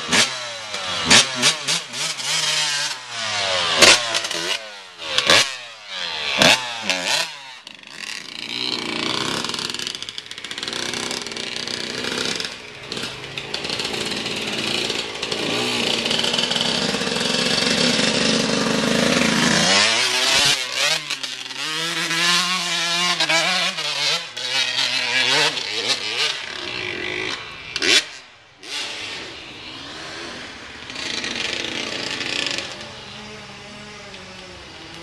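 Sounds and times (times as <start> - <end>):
engine revving: 0.0 - 35.0.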